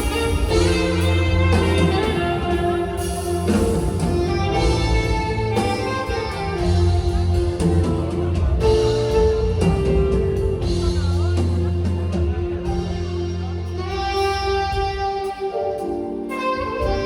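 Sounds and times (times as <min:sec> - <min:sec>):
live band playing: 0:00.0 - 0:17.0
saxophones playing: 0:00.0 - 0:17.0.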